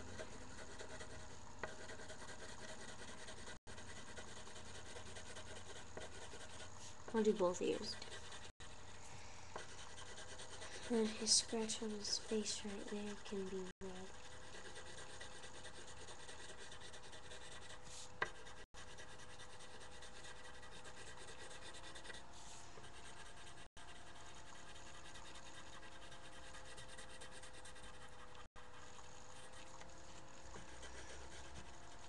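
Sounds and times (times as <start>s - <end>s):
colored pencil scratching on paper: 0.0s - 32.0s
faint steady hum: 0.0s - 32.0s.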